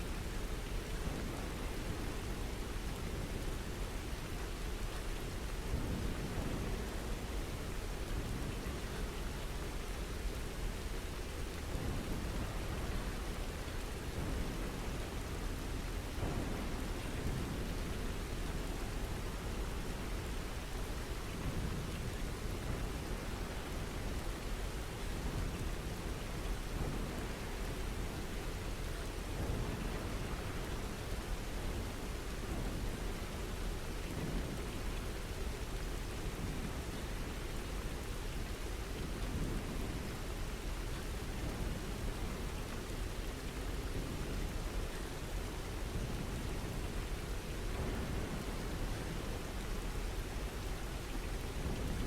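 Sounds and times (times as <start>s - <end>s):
low rumble of thunder: 0.0s - 52.0s
steady rain falling: 0.0s - 52.0s.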